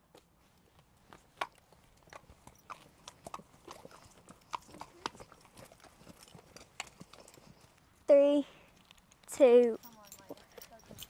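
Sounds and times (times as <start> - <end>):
pony hooves on gravel: 0.0 - 11.0.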